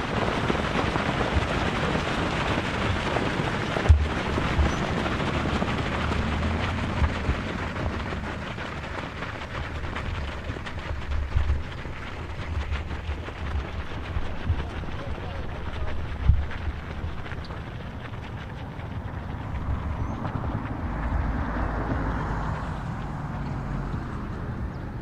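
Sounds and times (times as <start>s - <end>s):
runners' footsteps on dirt: 0.0s - 25.0s
wind rumble on microphone: 0.0s - 25.0s.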